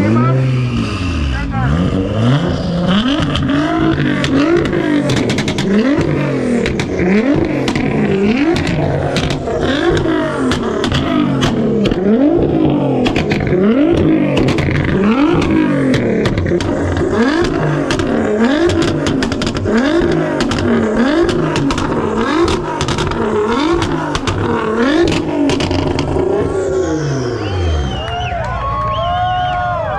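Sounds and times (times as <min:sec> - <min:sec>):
car engine revving: 0:00.0 - 0:29.9
sharp exhaust pops: 0:02.9 - 0:27.1.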